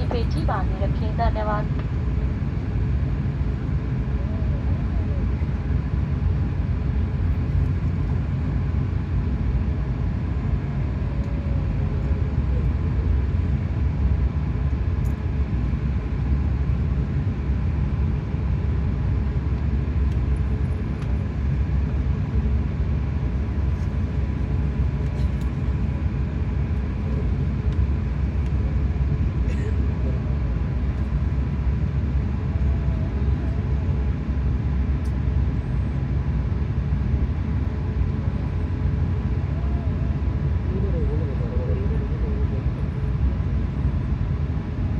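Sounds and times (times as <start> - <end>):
aircraft cabin engine rumble: 0.0 - 44.9.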